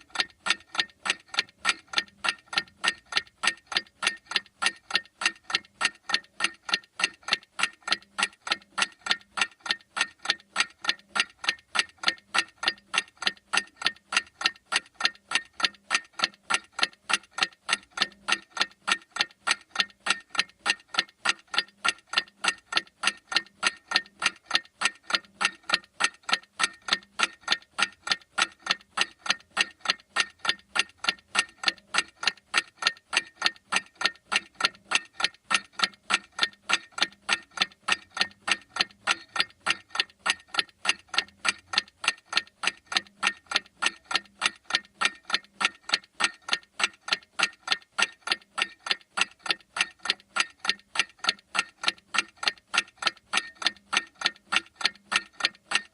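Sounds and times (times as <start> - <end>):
clock ticking: 0.0 - 55.9.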